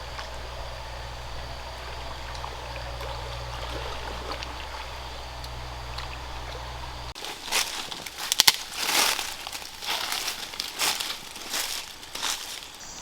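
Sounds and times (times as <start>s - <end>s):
steady low rumble: 0.0s - 12.5s.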